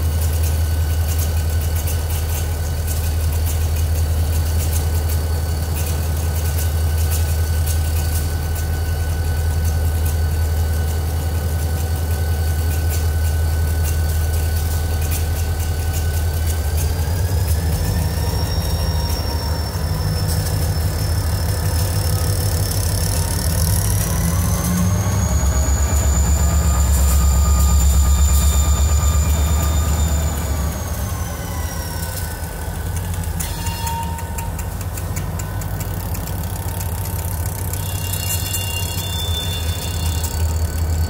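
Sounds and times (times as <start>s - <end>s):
diesel locomotive engine: 0.0s - 41.0s
thin high whine: 4.4s - 34.8s, 36.4s - 41.0s.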